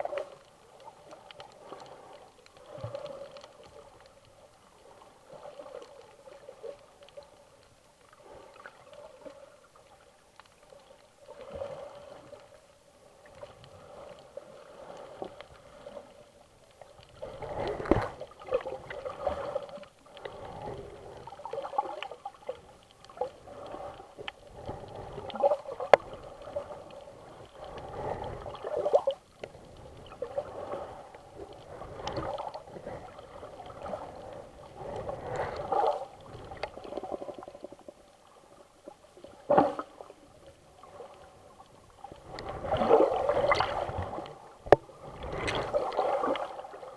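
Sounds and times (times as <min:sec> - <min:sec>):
water sloshing underwater: 0:00.0 - 0:46.9.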